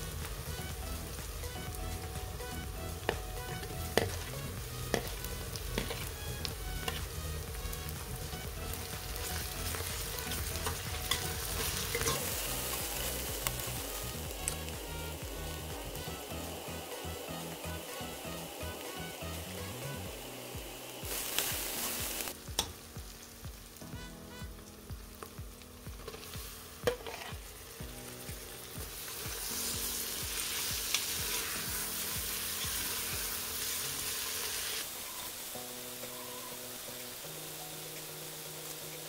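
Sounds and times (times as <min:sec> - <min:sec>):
food sizzling in a frying pan: 0:00.0 - 0:39.0
soft background music: 0:00.0 - 0:39.0.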